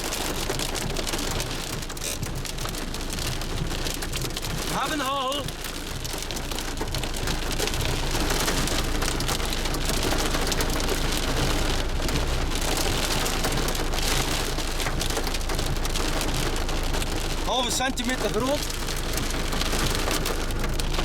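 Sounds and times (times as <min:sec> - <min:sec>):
hail and heavy rain patter: 0:00.0 - 0:21.0.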